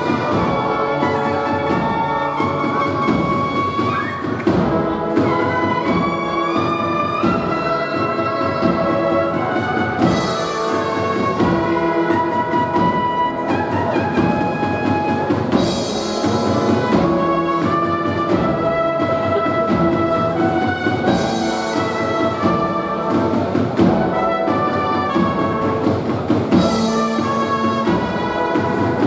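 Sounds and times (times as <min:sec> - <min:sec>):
bugles playing melody: 0:00.0 - 0:29.0
drums: 0:00.0 - 0:29.0.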